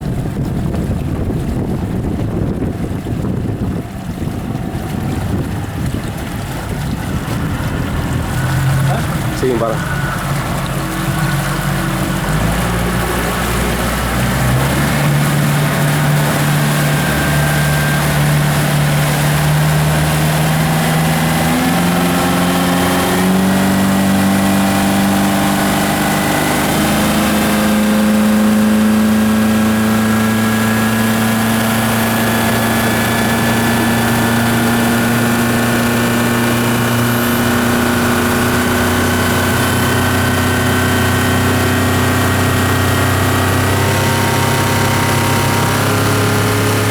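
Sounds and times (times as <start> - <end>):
outboard motor running: 0.0 - 46.9.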